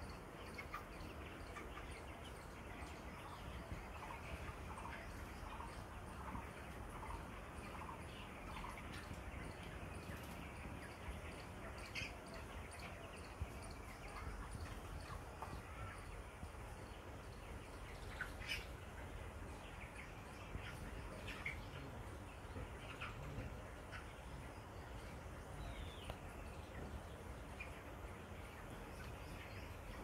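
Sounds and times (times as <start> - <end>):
chicks chirping: 0.0 - 30.0.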